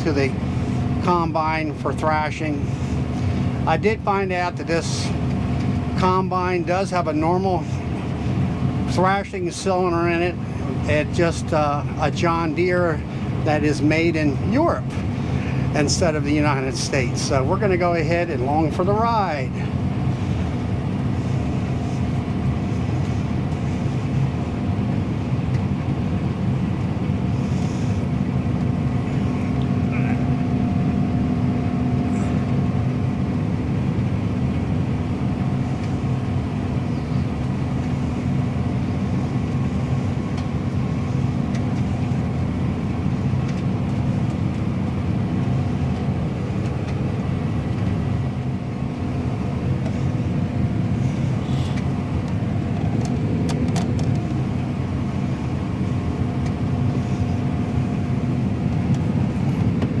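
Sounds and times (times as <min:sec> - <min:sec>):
combine harvester drone: 0:00.0 - 1:00.0.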